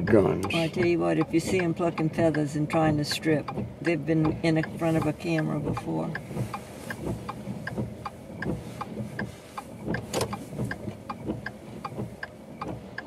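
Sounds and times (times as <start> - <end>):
car engine idling: 0.0 - 13.0
regular ticking: 0.0 - 13.0.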